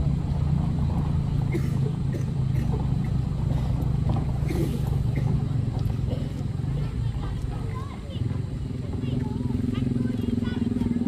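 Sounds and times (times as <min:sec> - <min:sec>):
pickup engine running low revs: 0:00.0 - 0:11.0.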